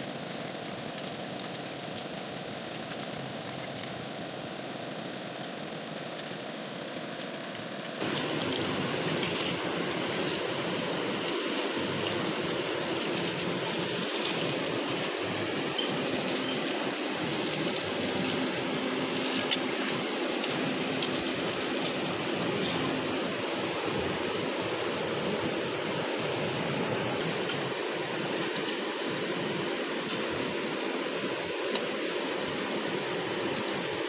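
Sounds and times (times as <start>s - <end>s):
steady rushing noise: 0.0s - 34.0s.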